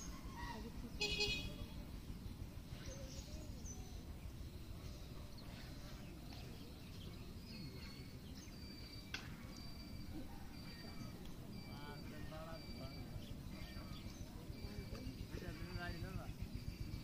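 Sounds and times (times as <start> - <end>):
bird calls: 0.0 - 17.0
steady low rumble: 0.0 - 17.0.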